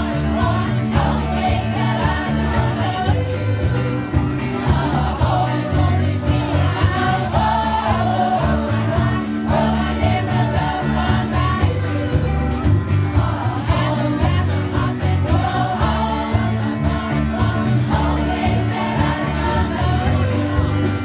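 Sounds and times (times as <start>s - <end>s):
choir singing pop song: 0.0s - 21.0s
low bass notes: 0.0s - 21.0s.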